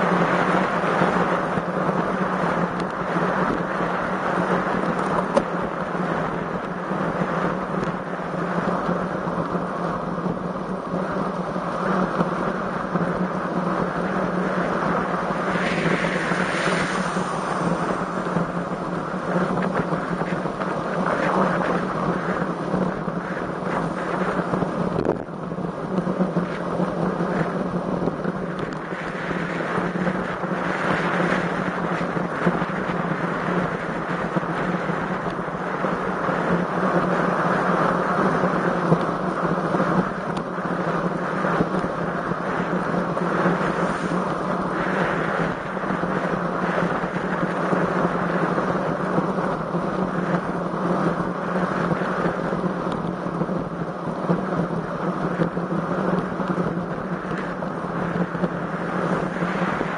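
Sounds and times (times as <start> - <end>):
low hum: 0.0 - 59.9
wind rushing over microphone: 0.0 - 59.9.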